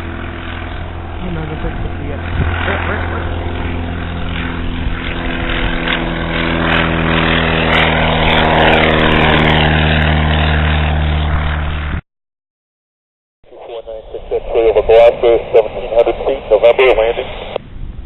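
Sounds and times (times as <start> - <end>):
propeller airplane engine: 0.0 - 12.0, 13.5 - 18.0.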